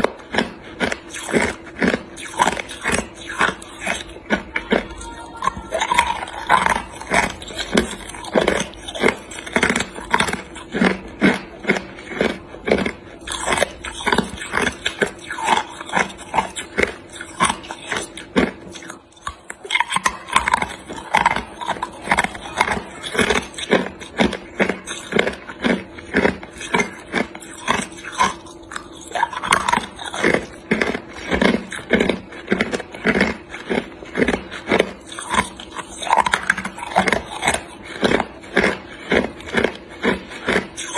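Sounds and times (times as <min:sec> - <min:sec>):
ice cubes crunched by teeth: 0:00.0 - 0:40.9.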